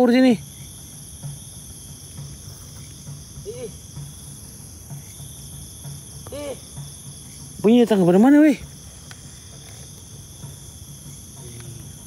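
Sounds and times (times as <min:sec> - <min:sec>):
crickets and insects chirping: 0:00.0 - 0:12.0
faint low drum thumps: 0:00.0 - 0:12.0.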